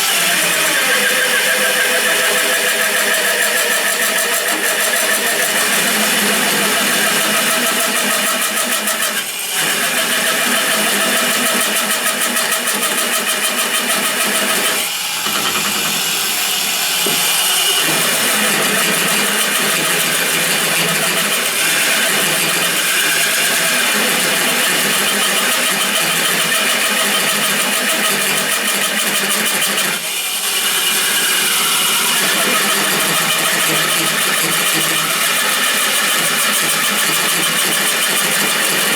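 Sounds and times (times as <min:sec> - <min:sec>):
drill cutting with hole saw: 0:00.0 - 0:38.9.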